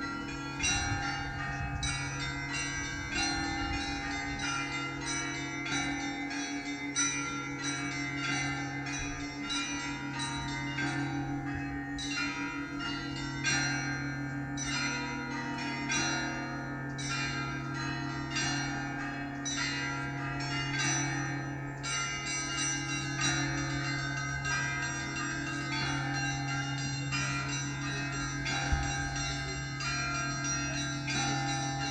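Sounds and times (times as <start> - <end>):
church bells ringing: 0.0 - 31.9
large bell hum: 0.0 - 31.9.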